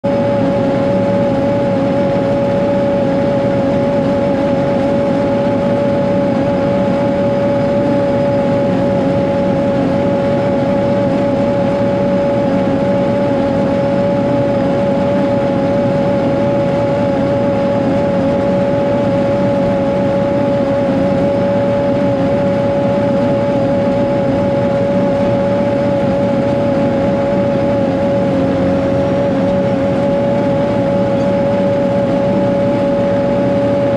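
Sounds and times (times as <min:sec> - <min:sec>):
diesel engine running under load: 0:00.0 - 0:33.9
steady whine: 0:00.0 - 0:33.9.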